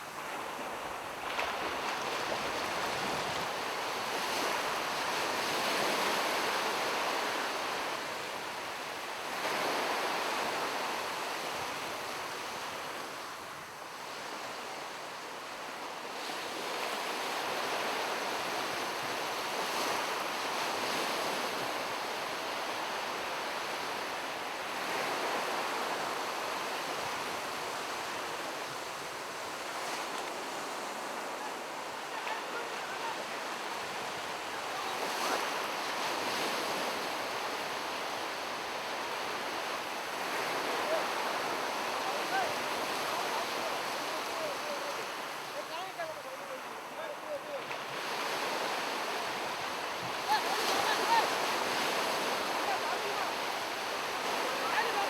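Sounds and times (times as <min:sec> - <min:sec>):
surf breaking on a beach: 0:00.0 - 0:55.0.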